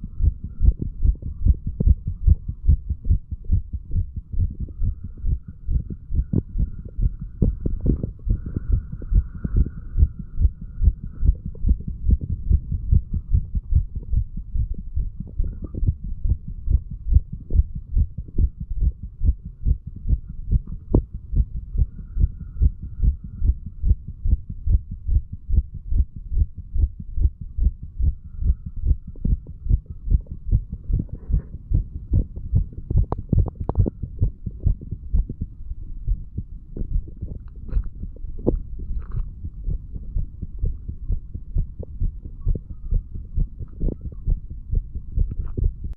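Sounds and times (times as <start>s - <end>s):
heartbeat thuds: 0.0s - 45.9s.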